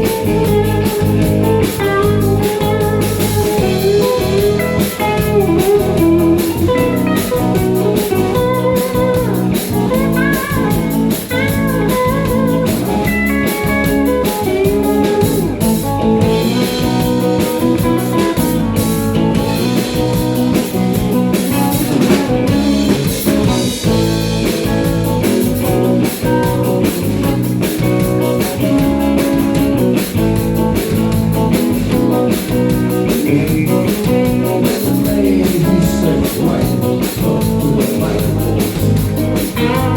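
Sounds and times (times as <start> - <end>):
country band playing: 0.0 - 39.9
drum kit: 0.0 - 39.9
guitar: 0.0 - 39.9.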